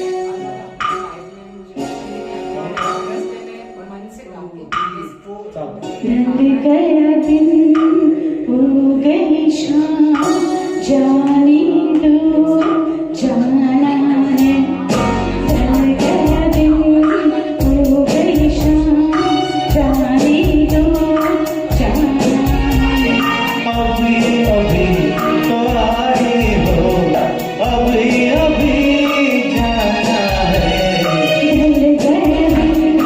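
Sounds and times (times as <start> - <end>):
live film song music: 0.0 - 33.0.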